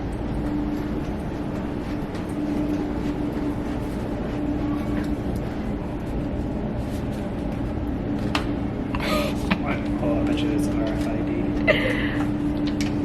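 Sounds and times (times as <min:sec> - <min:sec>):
pulsing humming tone: 0:00.0 - 0:13.0.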